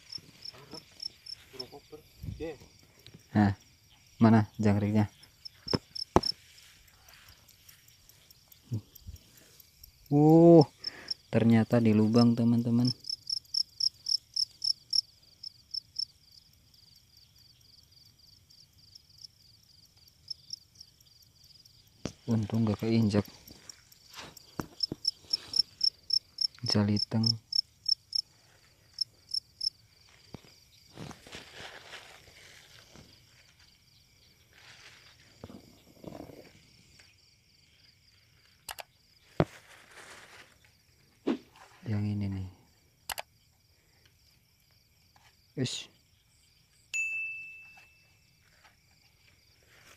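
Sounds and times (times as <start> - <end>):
cricket chirping close by: 0.0 - 49.9
faint crickets chirping: 0.0 - 49.9.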